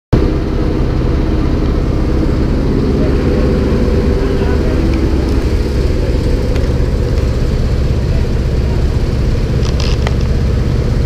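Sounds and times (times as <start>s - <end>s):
propeller aircraft engine droning: 0.2s - 11.0s.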